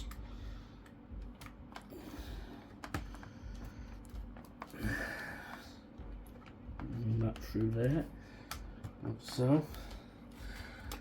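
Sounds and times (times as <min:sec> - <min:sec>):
plastic parts clicking and tapping: 0:00.8 - 0:01.9, 0:02.6 - 0:04.8, 0:05.4 - 0:11.0.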